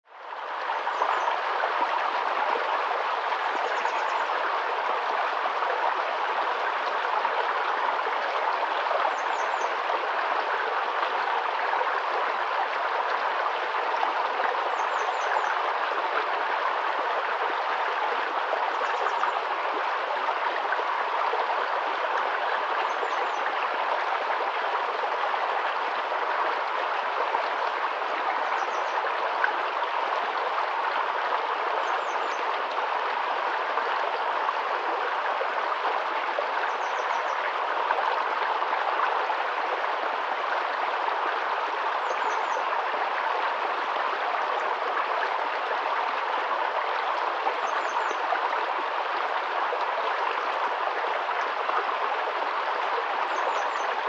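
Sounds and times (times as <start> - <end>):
stream flowing over stones: 0.1 - 54.0.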